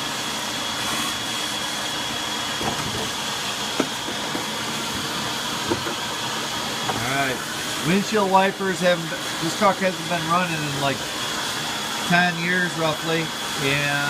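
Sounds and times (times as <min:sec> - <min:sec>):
vacuum cleaner whining: 0:00.0 - 0:14.0.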